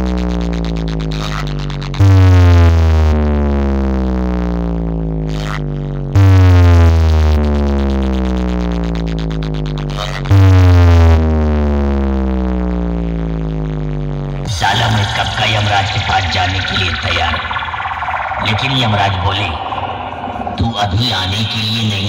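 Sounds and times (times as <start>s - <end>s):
deep synth bass sliding down: 0.0s - 22.0s.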